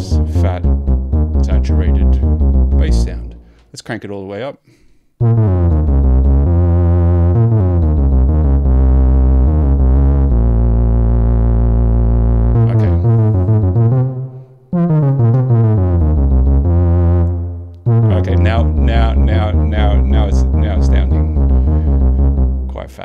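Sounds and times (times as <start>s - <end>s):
overdriven synthesizer bass notes: 0.0s - 3.6s, 5.2s - 22.9s.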